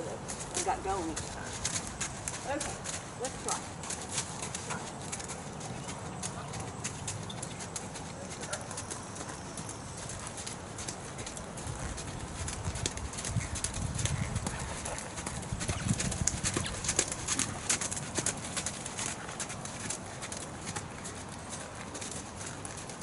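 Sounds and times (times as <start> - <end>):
horse hooves trotting on sand: 0.0 - 23.0.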